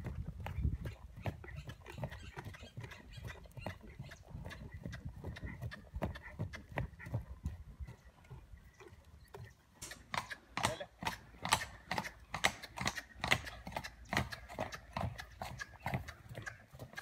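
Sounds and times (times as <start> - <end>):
horse hoofbeats trotting on hard path: 0.0 - 17.0.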